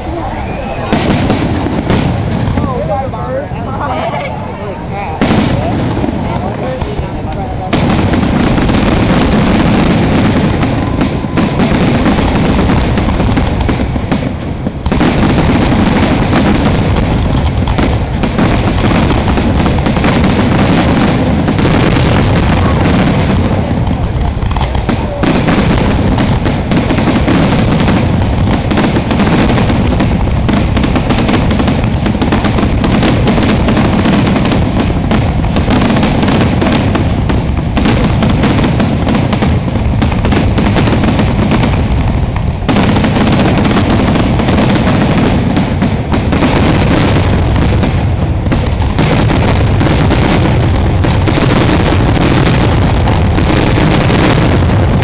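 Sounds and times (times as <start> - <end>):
fireworks cracking and booming: 0.0 - 55.0.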